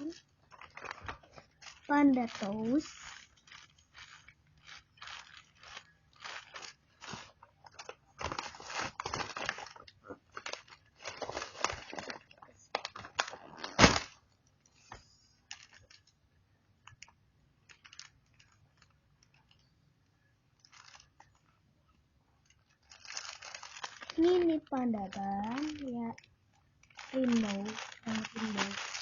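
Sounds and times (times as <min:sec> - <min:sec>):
plastic packaging crinkling: 0:00.0 - 0:14.2, 0:15.5 - 0:16.1, 0:16.8 - 0:19.8, 0:20.5 - 0:21.5, 0:22.4 - 0:29.0.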